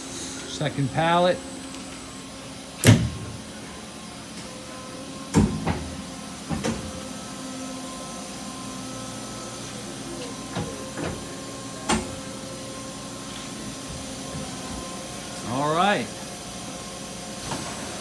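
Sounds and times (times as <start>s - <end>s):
machine humming with steady tones: 0.0s - 18.0s.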